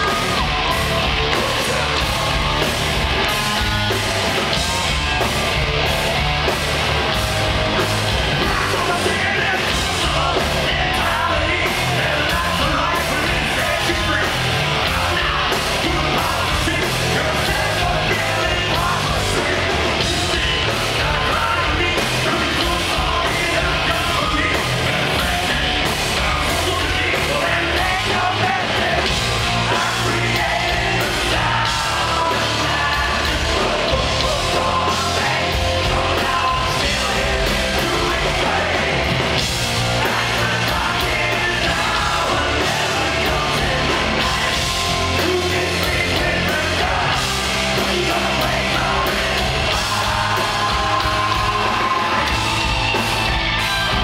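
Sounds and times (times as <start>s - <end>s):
rock band playing live: 0.0s - 54.0s
man singing: 8.3s - 52.6s.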